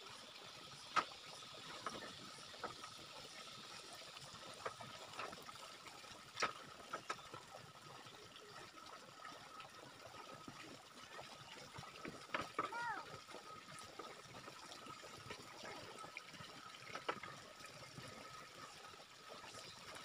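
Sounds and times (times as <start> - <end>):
outdoor background: 0.0 - 20.0.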